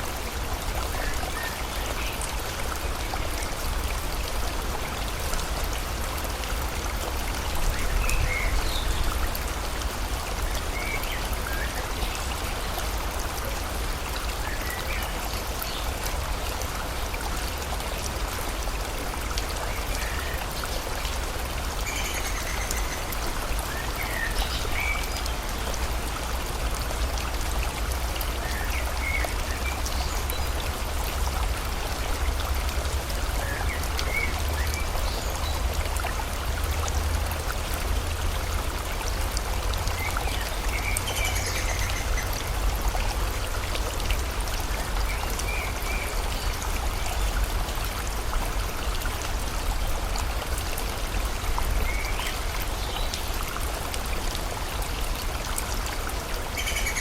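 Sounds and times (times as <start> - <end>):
rain falling: 0.0 - 57.0
stream flowing: 0.0 - 57.0.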